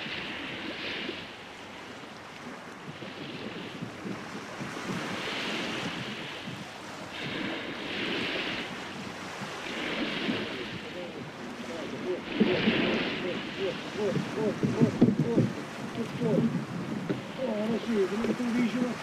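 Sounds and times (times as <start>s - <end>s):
sea water washing and splashing: 0.0s - 19.0s.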